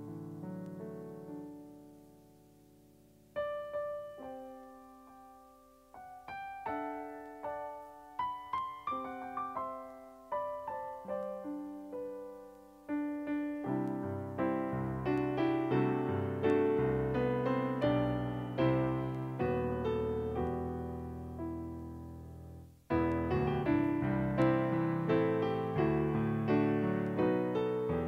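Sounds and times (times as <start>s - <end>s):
slow quiet piano: 0.0s - 28.0s.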